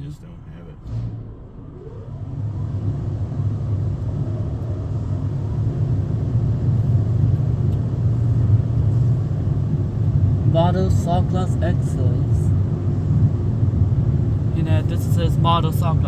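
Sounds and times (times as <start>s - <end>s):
car wash machine running: 1.2s - 16.0s.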